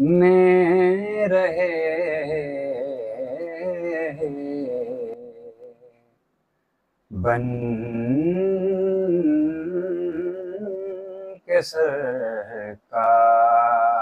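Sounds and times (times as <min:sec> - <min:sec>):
man singing devotional song: 0:00.0 - 0:05.9, 0:07.1 - 0:14.0.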